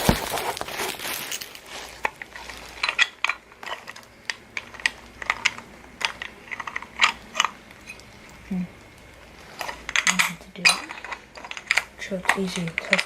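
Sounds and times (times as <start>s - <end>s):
metal parts clicking and clinking: 0.8s - 8.0s, 9.6s - 13.0s.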